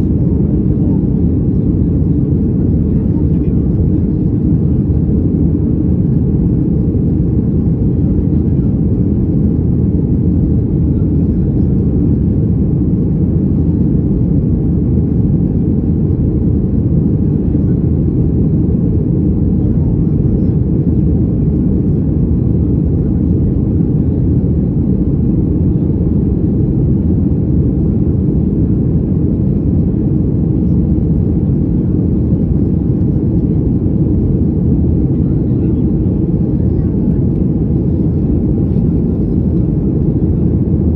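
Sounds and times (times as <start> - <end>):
jet engine cabin rumble: 0.0 - 40.9.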